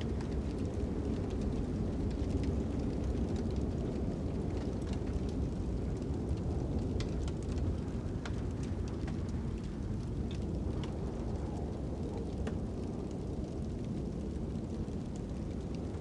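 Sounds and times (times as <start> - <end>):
fire crackling and popping: 0.0 - 16.0
low rumble of wind: 0.0 - 16.0.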